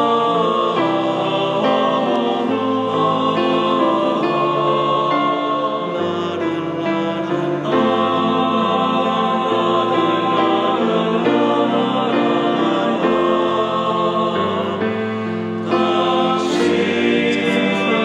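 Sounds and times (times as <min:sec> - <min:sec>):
male choir singing: 0:00.0 - 0:18.0.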